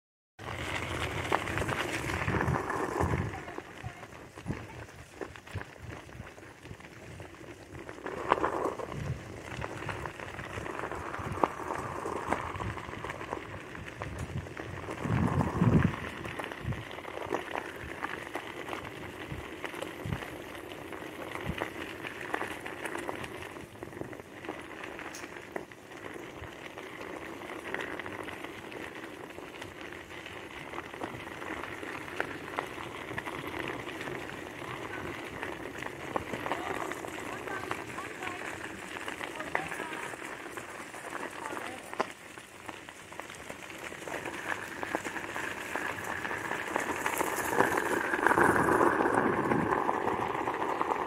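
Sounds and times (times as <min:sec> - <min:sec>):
scooter wheels crunching gravel: 0:00.4 - 0:51.0.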